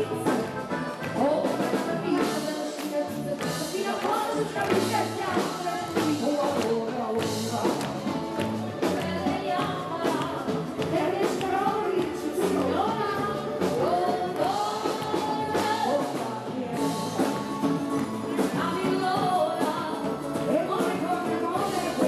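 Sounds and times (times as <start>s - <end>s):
live band playing: 0.0s - 22.0s
woman singing: 0.0s - 22.0s.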